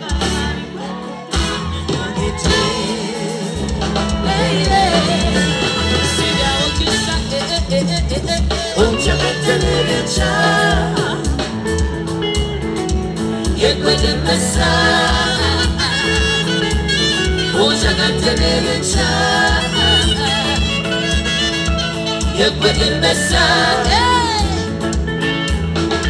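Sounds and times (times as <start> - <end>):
voices singing: 0.0 - 11.9, 13.2 - 24.8
live band music: 0.0 - 26.0.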